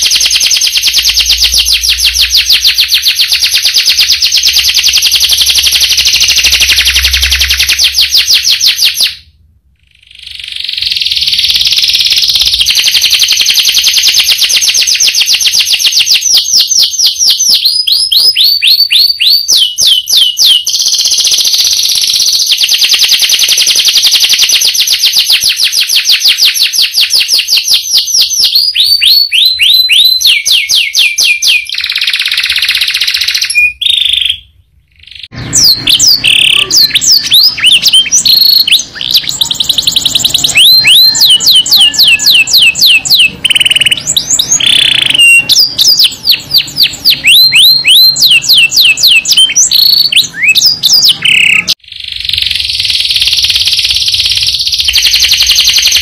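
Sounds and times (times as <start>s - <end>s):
background noise: 0.0s - 56.0s
canary singing trills: 0.0s - 56.0s
second canary singing: 0.0s - 56.0s.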